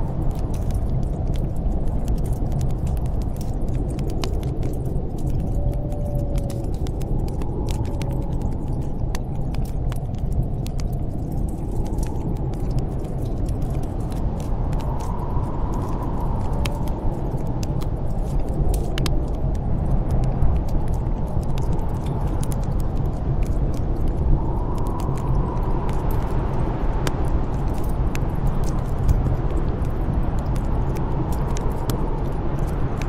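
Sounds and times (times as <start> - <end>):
gusting snowstorm wind: 0.0 - 33.0
wood fire crackling: 0.0 - 33.0.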